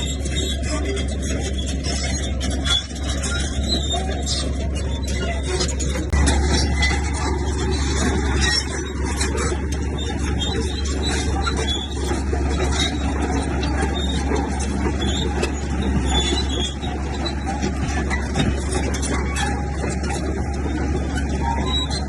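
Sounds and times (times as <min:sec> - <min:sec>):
bulldozer diesel engine rumbling: 0:00.0 - 0:22.0.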